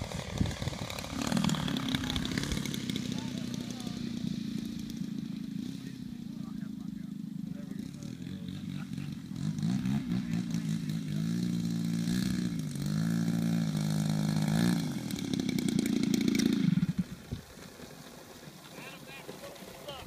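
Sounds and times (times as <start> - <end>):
model plane propeller engine: 0.0 - 20.0.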